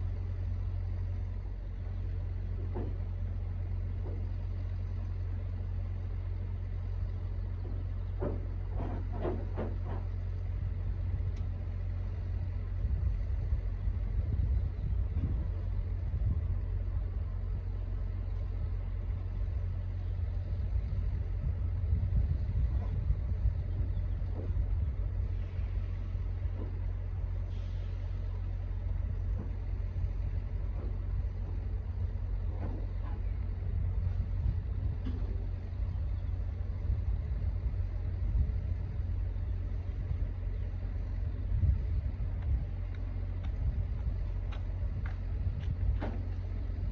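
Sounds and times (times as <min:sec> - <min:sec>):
truck engine rumbling: 0:00.0 - 0:46.9.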